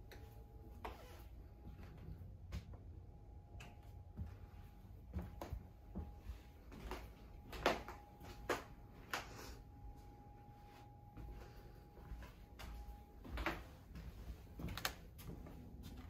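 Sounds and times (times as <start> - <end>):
faint steady hum: 0.0 - 16.0
footsteps on hardwood floor: 0.1 - 2.9, 3.7 - 9.3, 10.6 - 16.0.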